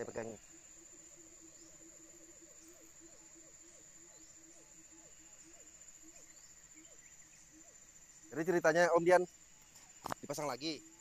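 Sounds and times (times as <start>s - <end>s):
insects buzzing high-pitched: 0.0s - 11.0s
low pulsing insect call: 0.0s - 11.0s.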